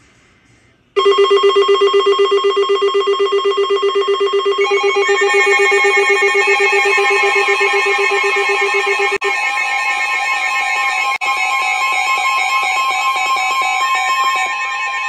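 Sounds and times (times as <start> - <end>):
weather radio alert alarms: 1.0 - 15.0.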